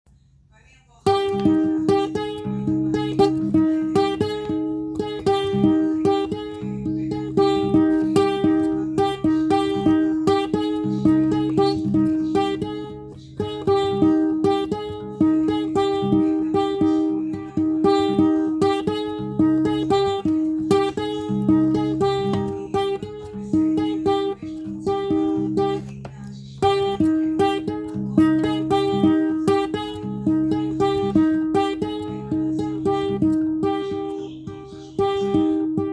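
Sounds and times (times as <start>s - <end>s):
plucked guitar music: 1.0s - 35.9s.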